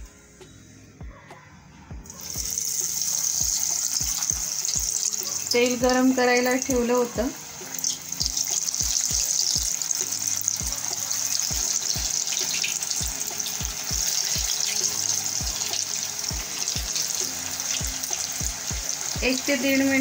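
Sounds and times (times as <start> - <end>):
background music with beat: 0.0 - 20.0
food deep-frying in hot oil: 2.0 - 20.0.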